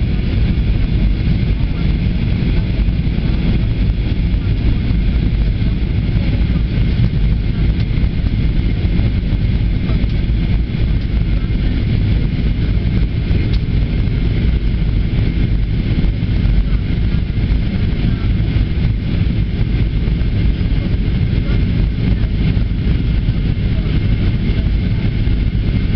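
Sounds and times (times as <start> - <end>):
airplane cabin engine rumble: 0.0 - 25.9.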